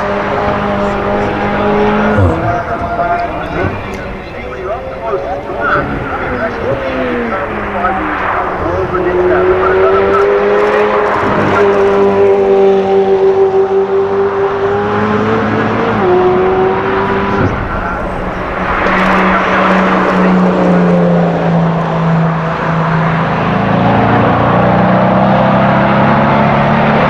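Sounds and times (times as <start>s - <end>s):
sports car engine at speed: 0.0s - 27.0s.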